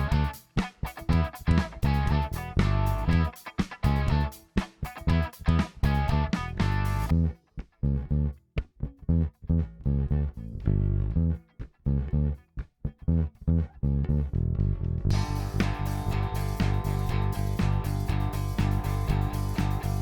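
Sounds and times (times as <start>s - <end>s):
bass guitar notes: 0.0s - 20.0s.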